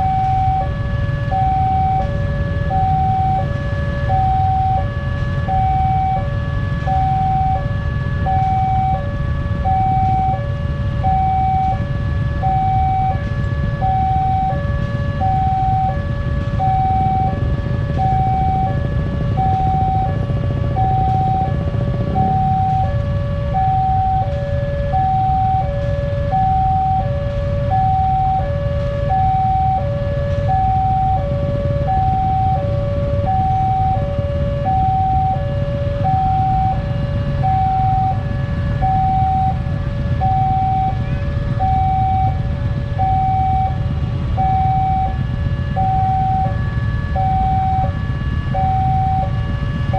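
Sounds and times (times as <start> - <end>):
low rumble: 0.0 - 49.9
two-tone crossing alarm: 0.0 - 49.9.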